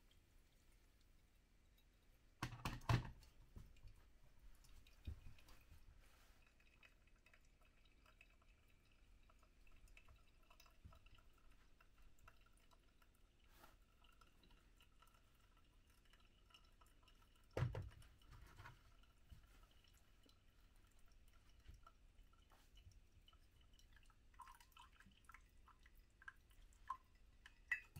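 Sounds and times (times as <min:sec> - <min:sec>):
coffee dripping into a mug: 0:01.0 - 0:27.9.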